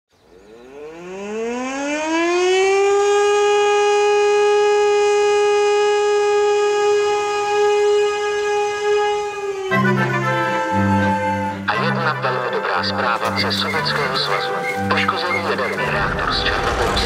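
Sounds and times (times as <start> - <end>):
hand-cranked siren wailing: 0.6 - 16.6.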